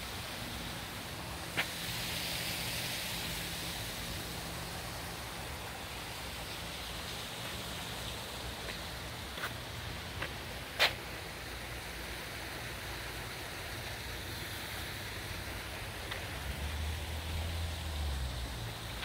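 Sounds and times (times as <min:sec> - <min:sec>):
water splashing over waterfall: 0:00.0 - 0:19.0.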